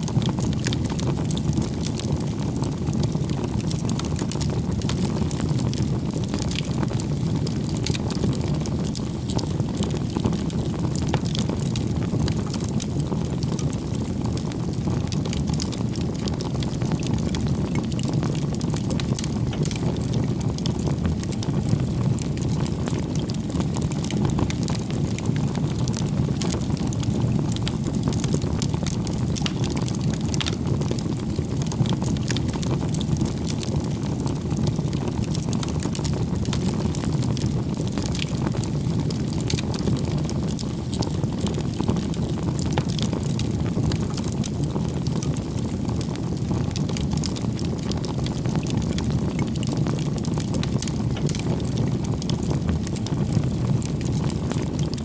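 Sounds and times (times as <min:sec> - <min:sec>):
low rush of flame: 0:00.0 - 0:55.0
wood crackling and popping: 0:00.0 - 0:55.0.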